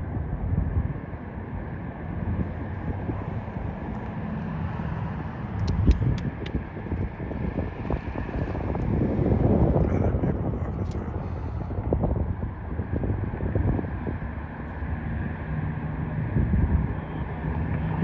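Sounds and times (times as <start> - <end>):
rumble of vehicles: 0.0 - 18.0
wind buffeting microphone: 0.0 - 18.0.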